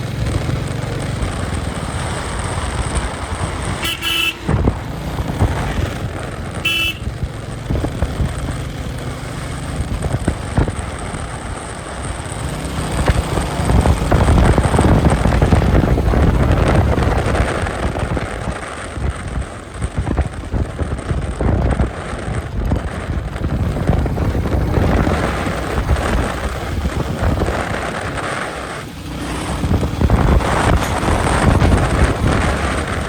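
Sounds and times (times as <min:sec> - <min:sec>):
motorcycle engine cruising: 0:00.0 - 0:33.0
wind rushing over microphone: 0:00.0 - 0:33.0.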